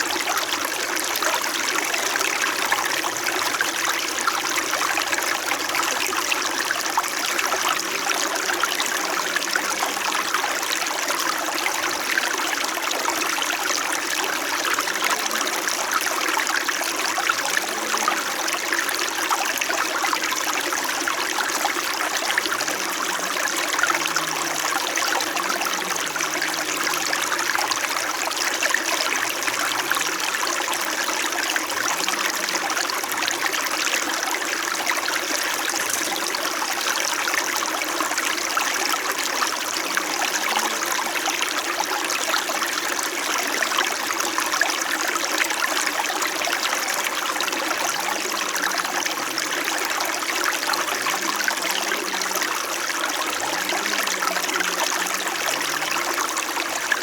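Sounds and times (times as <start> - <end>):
brook flowing and murmuring: 0.0 - 57.0.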